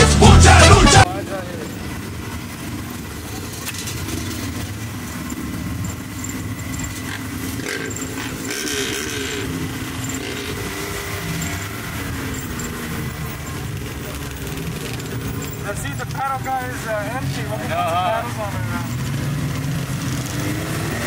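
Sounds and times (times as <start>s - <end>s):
off-road vehicle engines running: 0.0s - 21.0s.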